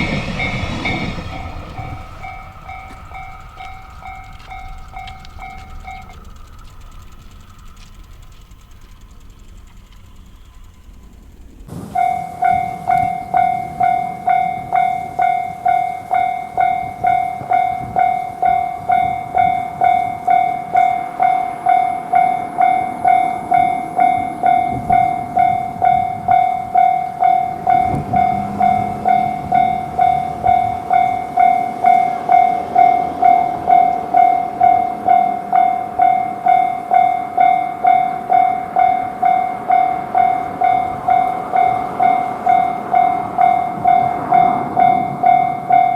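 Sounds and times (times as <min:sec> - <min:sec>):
level crossing warning bell: 0:00.0 - 0:45.9.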